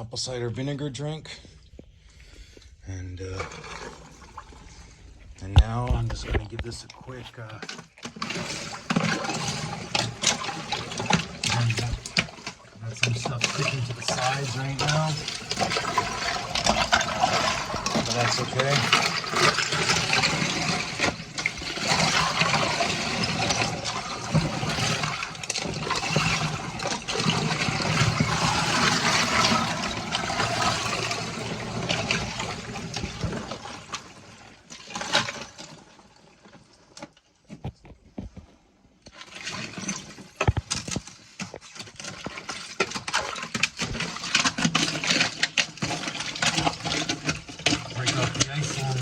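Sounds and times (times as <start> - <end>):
water running and splashing: 3.3 - 5.6, 7.4 - 36.5, 39.2 - 49.0.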